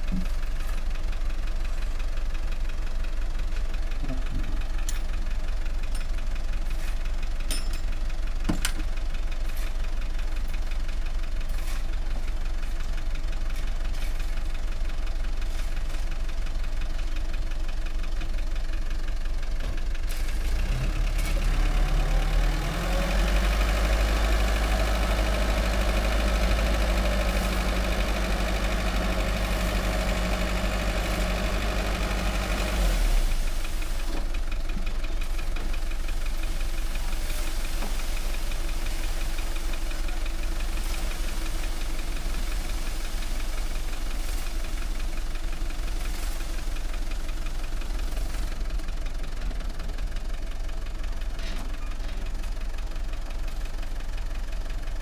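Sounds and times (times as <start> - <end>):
diesel truck engine clattering: 0.0 - 55.0.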